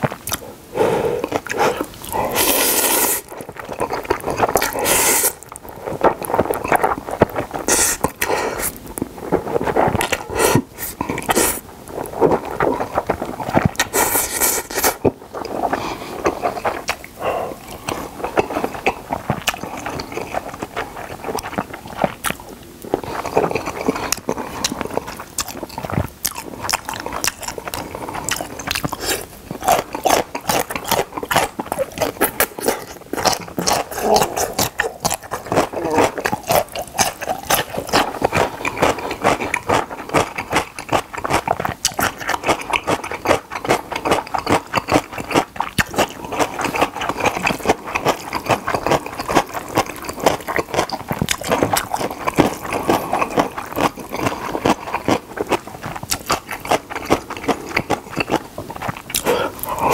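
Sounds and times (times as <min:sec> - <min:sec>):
chewing and crunching: 0:00.0 - 0:59.9
wet mouth sounds: 0:00.0 - 0:59.9.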